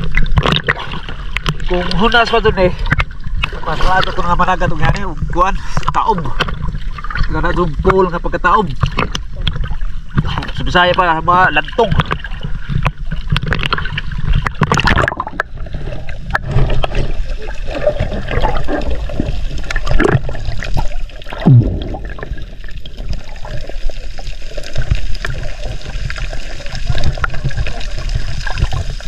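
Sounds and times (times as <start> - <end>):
small knocks and splashes: 0.0 - 5.0, 8.6 - 11.0, 11.6 - 29.0
muffled underwater sloshing: 0.0 - 29.0.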